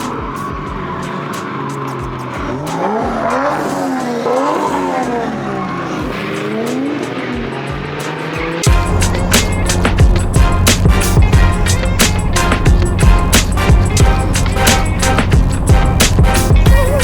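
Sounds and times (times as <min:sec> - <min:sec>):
car engine revving: 0:00.0 - 0:17.0
tires squealing: 0:00.0 - 0:17.0.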